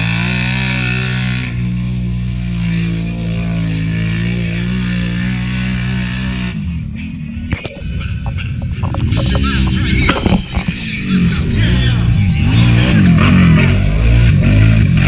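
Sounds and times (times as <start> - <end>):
quad engine at high revs: 0.0 - 15.0.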